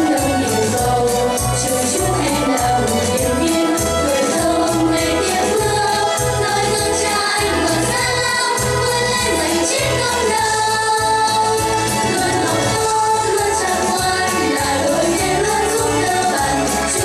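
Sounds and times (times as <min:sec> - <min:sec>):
children singing together: 0:00.0 - 0:17.0
instrumental accompaniment: 0:00.0 - 0:17.0.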